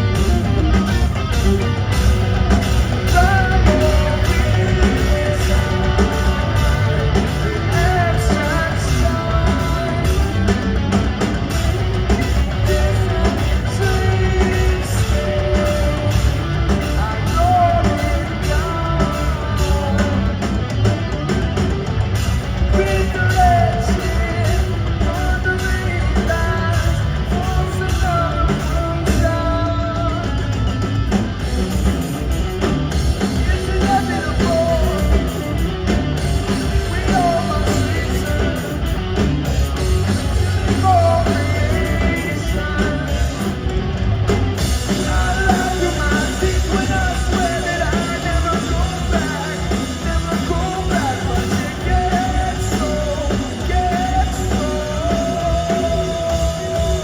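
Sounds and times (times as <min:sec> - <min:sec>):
live rock band playing: 0:00.0 - 0:57.0
person singing: 0:03.0 - 0:21.6, 0:22.6 - 0:31.9, 0:33.2 - 0:43.8, 0:44.5 - 0:57.0.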